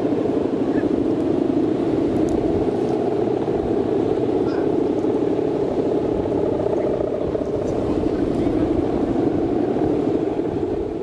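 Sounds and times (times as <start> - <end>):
kite hummer droning: 0.0 - 11.0
strong wind: 0.0 - 11.0.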